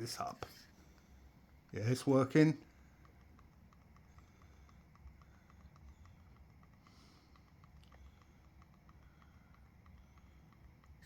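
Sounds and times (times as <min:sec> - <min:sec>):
faint regular ticking: 0:00.0 - 0:11.0.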